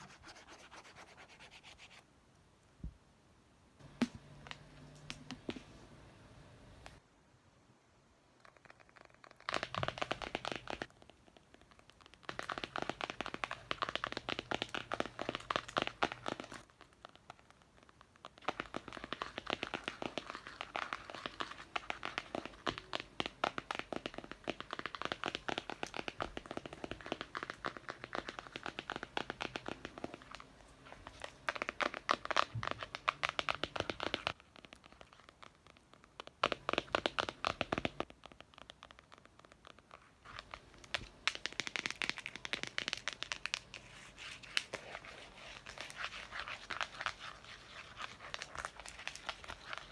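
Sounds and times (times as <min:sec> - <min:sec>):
scratching and tapping on a book: 0:08.5 - 0:49.9.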